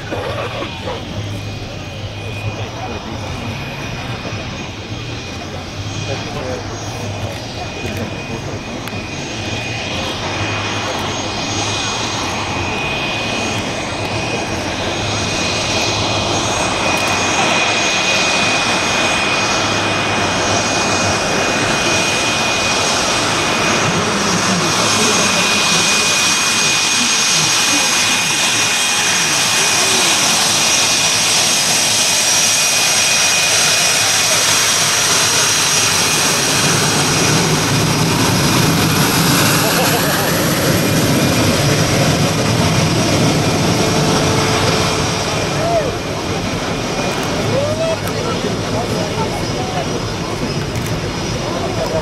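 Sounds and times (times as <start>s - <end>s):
high turbine whine: 0.0s - 52.0s
jet engine roar: 0.0s - 52.0s.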